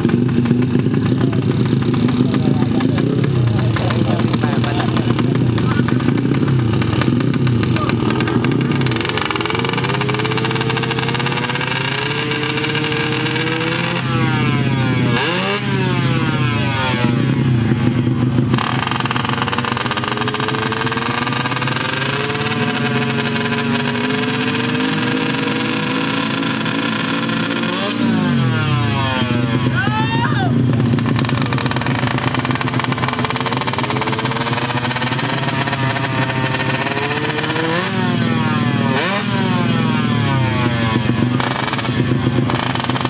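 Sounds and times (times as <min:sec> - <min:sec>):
motorcycle engines at high revs: 0:00.0 - 0:43.0.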